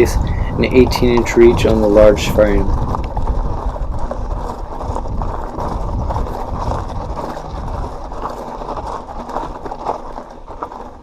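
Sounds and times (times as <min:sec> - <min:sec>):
bike tyres rumbling on dirt: 0:00.0 - 0:11.0
chain and frame rattling: 0:00.0 - 0:11.0.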